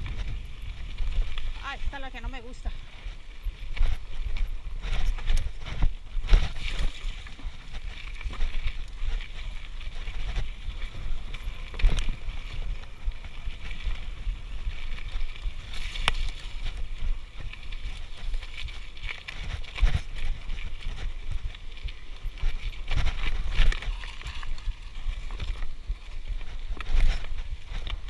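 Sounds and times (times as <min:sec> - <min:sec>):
bike rattling: 0:00.0 - 0:28.0
bike tyre noise: 0:00.0 - 0:28.0
wind rumble on microphone: 0:00.0 - 0:28.0.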